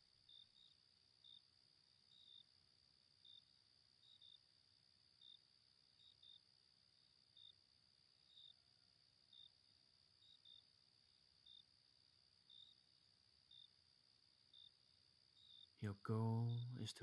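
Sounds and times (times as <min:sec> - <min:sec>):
cricket chirps: 0:00.0 - 0:17.0
crickets trilling: 0:00.0 - 0:17.0.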